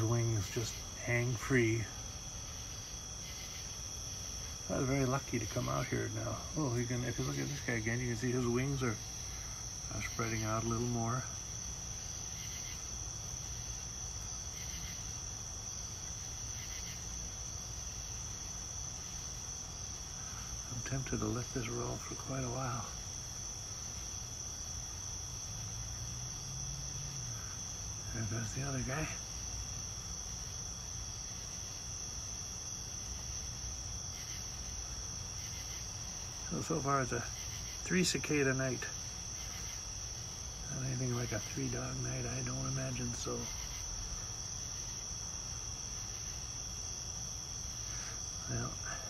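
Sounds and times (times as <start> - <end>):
low steady hum: 0.0 - 49.0
night insects trilling: 0.0 - 49.0.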